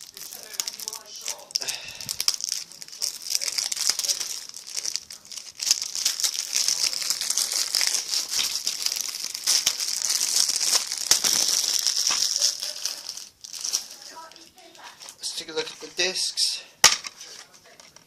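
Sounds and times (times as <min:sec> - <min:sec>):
plastic wrapping crinkling: 0:00.0 - 0:18.0.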